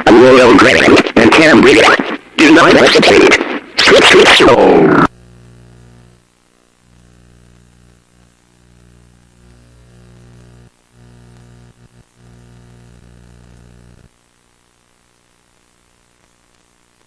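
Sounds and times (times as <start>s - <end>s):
electrical hum with buzz: 0.0s - 17.0s
light static: 0.0s - 17.0s.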